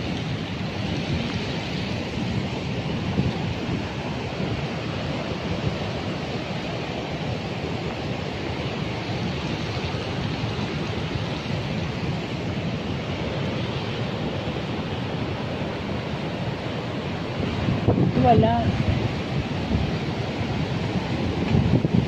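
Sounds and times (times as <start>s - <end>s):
ocean surf breaking: 0.0s - 22.0s
wind blowing across microphone: 0.0s - 22.0s.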